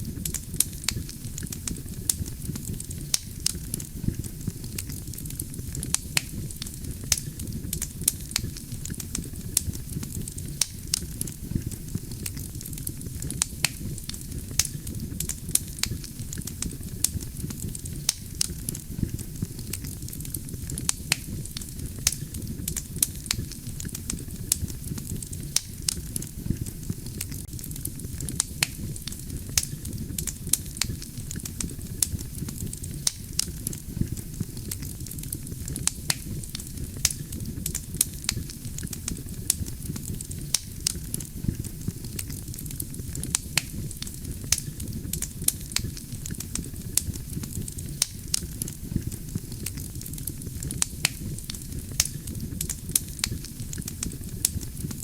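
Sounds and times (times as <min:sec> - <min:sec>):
logs crackling and popping: 0:00.0 - 0:55.0
low rumble of flame: 0:00.0 - 0:55.0.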